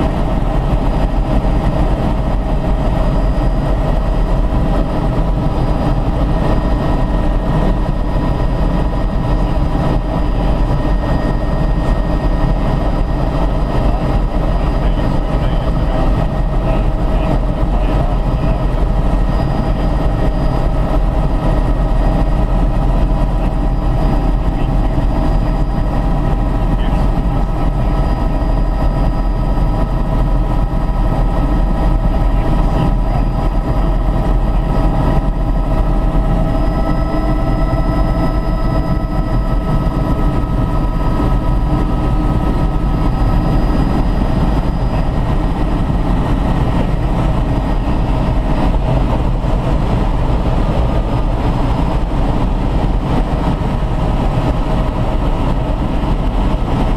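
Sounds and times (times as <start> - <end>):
helicopter engine and rotor drone: 0.0 - 56.9
steady whine: 0.0 - 56.9.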